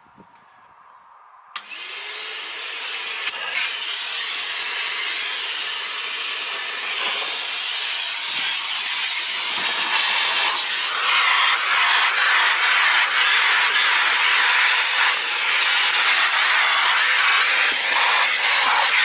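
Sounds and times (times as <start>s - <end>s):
vacuum cleaner running: 3.2s - 19.0s.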